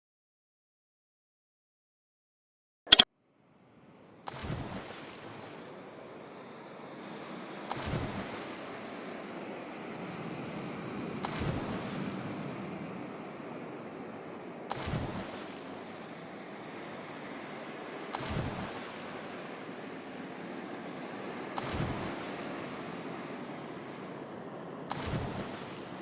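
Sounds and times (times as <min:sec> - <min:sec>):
ocean surf: 0:04.5 - 0:26.0.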